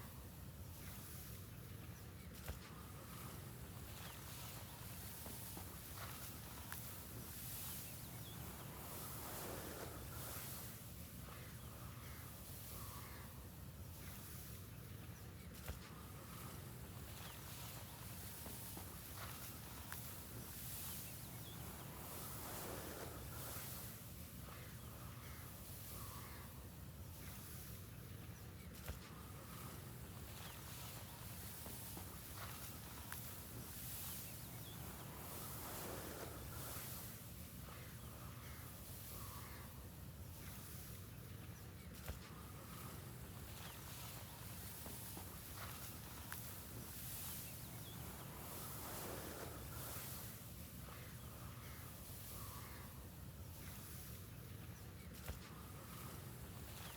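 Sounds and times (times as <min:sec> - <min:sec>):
faint bird chirps: 0:00.0 - 0:56.9.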